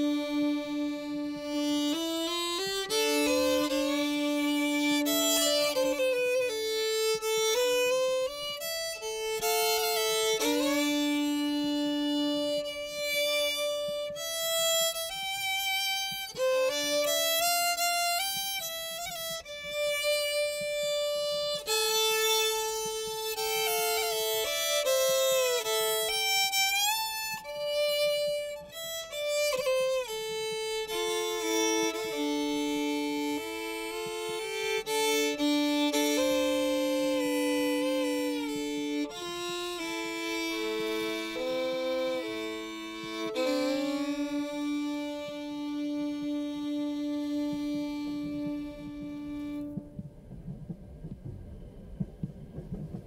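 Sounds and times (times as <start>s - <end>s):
slow violin melody: 0.0s - 53.0s.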